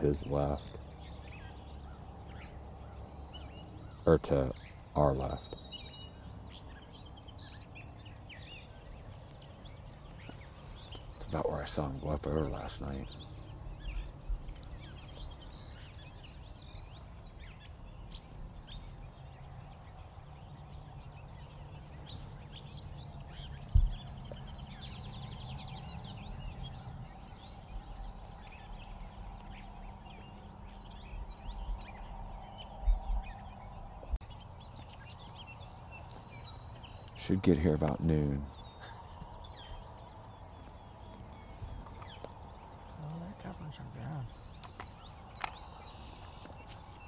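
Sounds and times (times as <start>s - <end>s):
low background rumble: 0.0s - 46.3s
songbirds chirping and singing: 0.0s - 47.0s.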